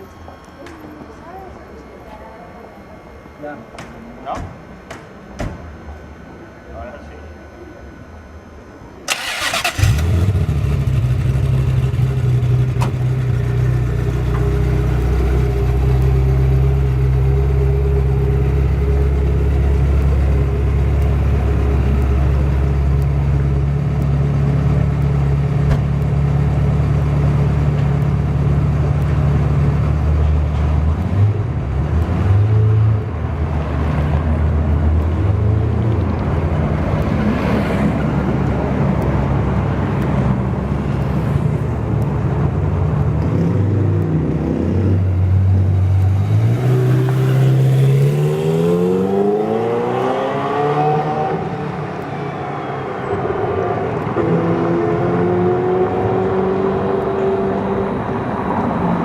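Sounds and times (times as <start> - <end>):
car engine idling and revving: 9.1 - 59.0.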